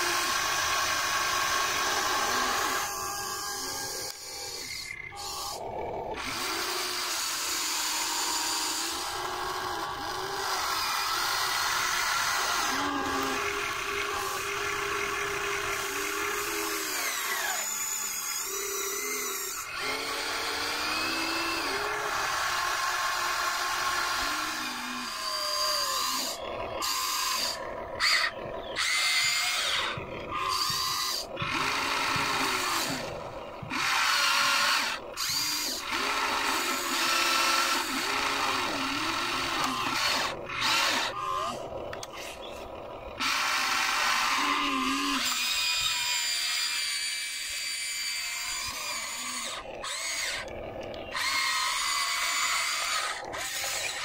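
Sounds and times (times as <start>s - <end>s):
toy excavator motors whining: 0.0s - 54.0s.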